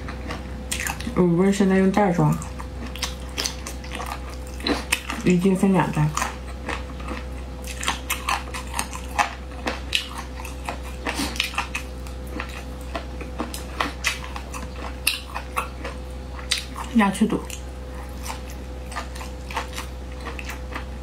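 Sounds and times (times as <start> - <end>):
chewing and mouth smacks: 0.0 - 1.2, 2.4 - 5.3, 6.1 - 20.9
faint electrical hum: 0.0 - 21.0.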